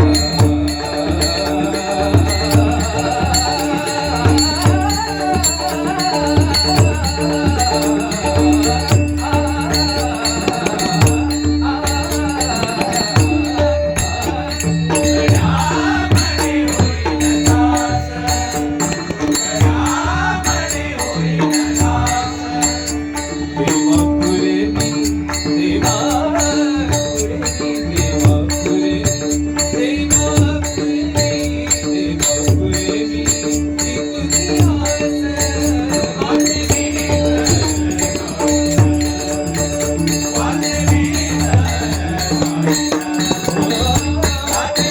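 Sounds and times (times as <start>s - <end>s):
hand percussion: 0.0s - 44.9s.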